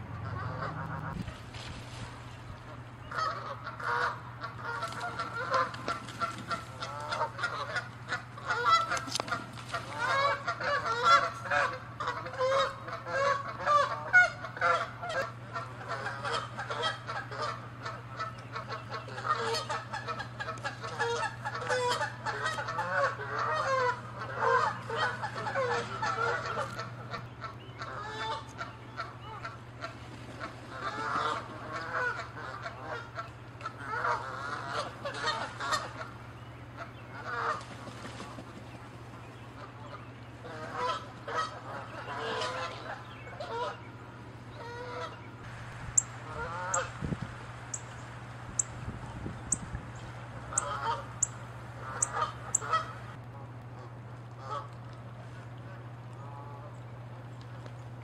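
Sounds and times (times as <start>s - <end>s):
geese honking: 0.0s - 1.2s, 2.6s - 47.0s, 49.5s - 53.2s, 53.8s - 54.7s.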